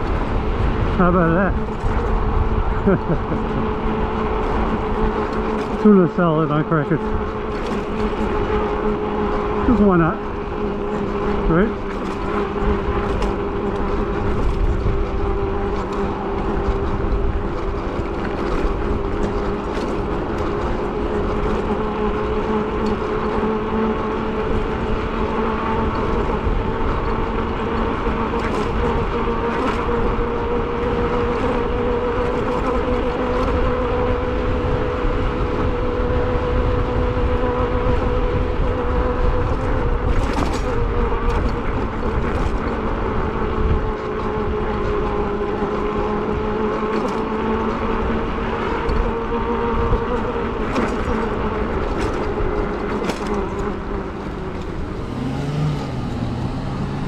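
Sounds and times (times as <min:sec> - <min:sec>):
electric motor whine: 0:00.0 - 0:57.0
wind rumbling on microphone: 0:00.0 - 0:57.0.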